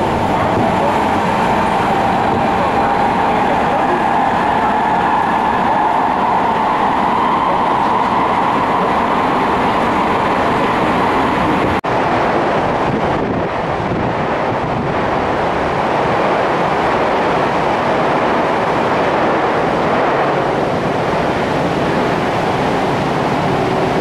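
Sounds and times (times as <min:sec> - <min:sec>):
train rumbling in a tunnel: 0:00.0 - 0:24.0.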